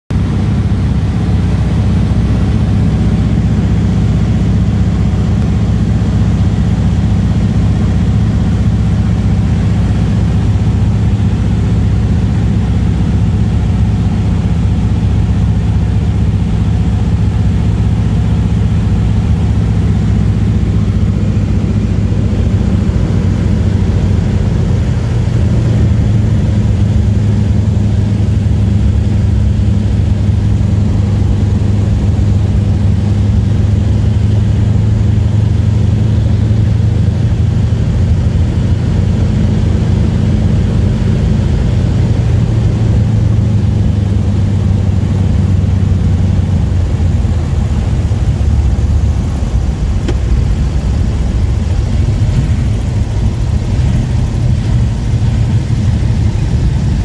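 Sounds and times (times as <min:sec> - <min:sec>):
airplane engine and propeller running: 0:00.1 - 0:57.0.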